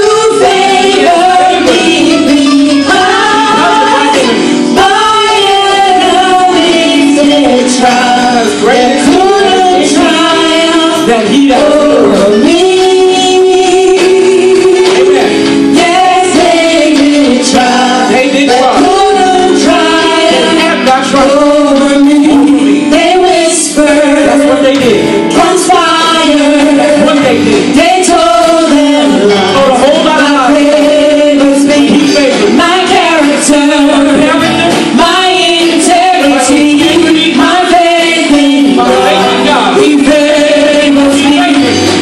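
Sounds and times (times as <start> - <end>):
gospel group singing: 0.0 - 42.0.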